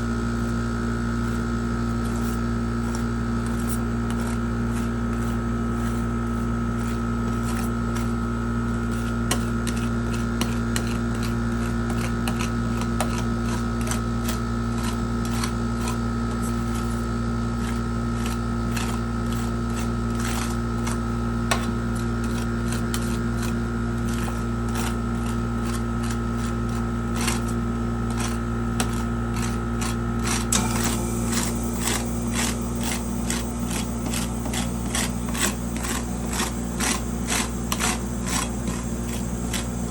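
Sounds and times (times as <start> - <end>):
refrigeration unit humming: 0.0 - 39.9.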